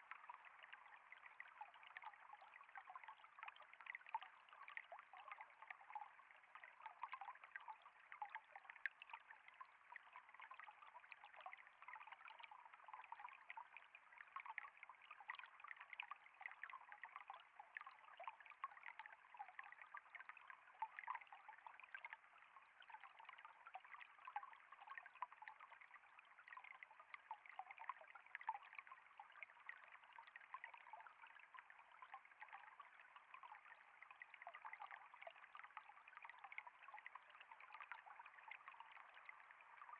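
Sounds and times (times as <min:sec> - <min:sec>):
faint trickle of water: 0:00.0 - 0:39.9
small splashes and drips: 0:00.0 - 0:39.9.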